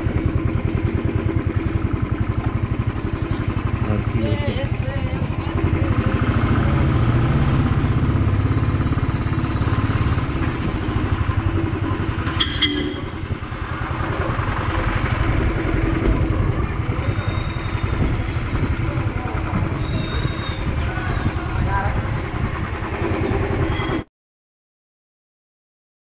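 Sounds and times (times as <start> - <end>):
motorcycle engine running: 0.0 - 24.1.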